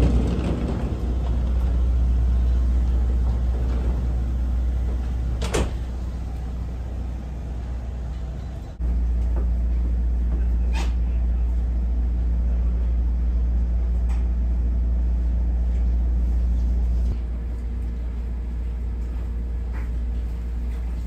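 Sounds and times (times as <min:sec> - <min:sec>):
low rumbling hum in railway carriage: 0:00.0 - 0:21.0.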